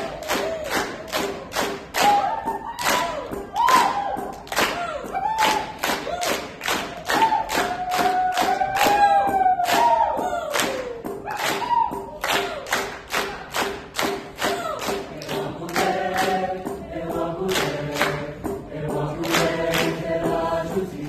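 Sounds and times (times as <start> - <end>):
live ensemble music with singing: 0.0 - 21.0
sharp percussive strikes: 0.0 - 21.0.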